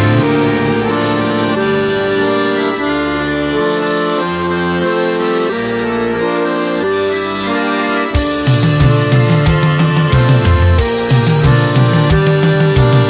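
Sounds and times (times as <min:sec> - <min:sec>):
accordion playing held chords: 0:00.0 - 0:13.0.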